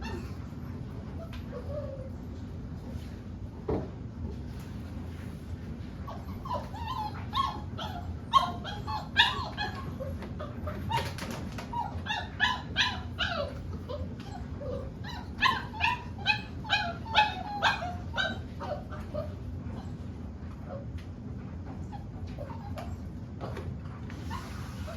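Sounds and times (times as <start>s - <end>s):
puppies whining and yipping: 0.0s - 2.4s, 6.0s - 21.0s, 21.6s - 24.9s.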